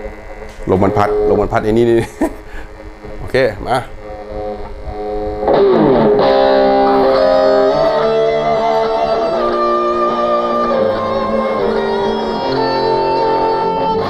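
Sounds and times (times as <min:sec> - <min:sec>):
electric guitar playing: 0:00.0 - 0:14.0.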